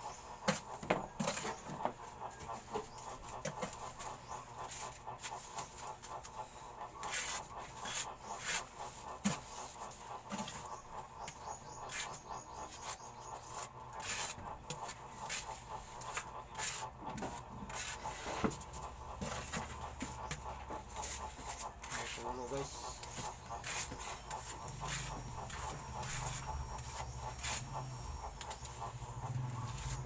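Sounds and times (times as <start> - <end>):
scraping and rubbing on a sink: 0.5 - 30.0.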